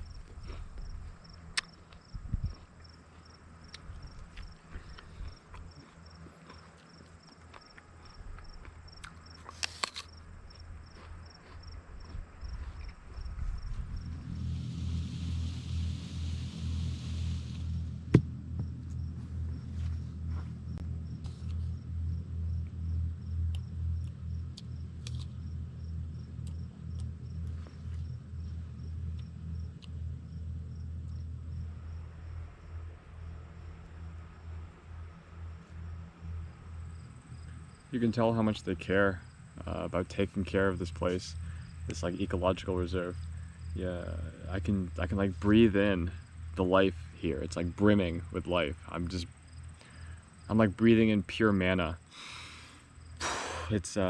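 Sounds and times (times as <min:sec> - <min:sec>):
low rumble: 0:00.0 - 0:09.4, 0:10.2 - 0:52.0
cricket chirping: 0:00.0 - 0:54.0.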